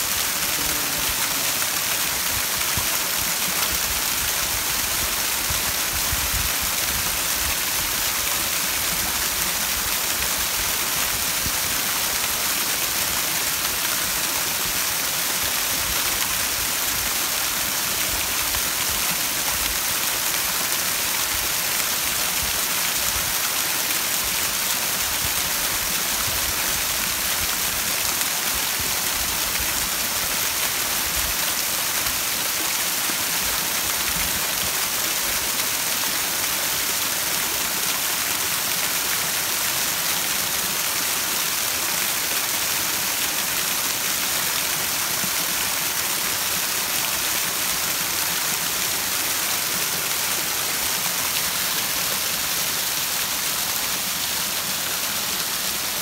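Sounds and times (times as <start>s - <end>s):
waterfall splashing onto rocks: 0.0s - 56.0s.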